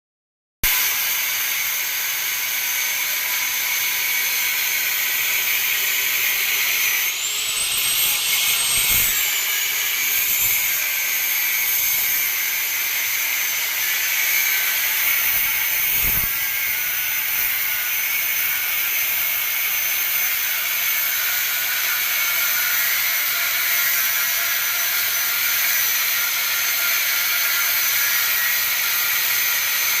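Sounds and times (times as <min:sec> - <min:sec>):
power tool whining: 0:00.7 - 0:30.0.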